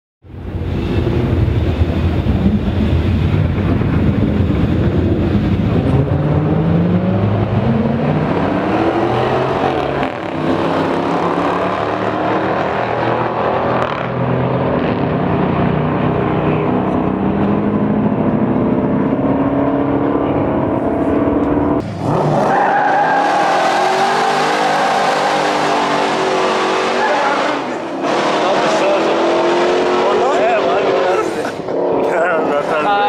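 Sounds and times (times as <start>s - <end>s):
car engine accelerating hard: 0.4s - 33.0s.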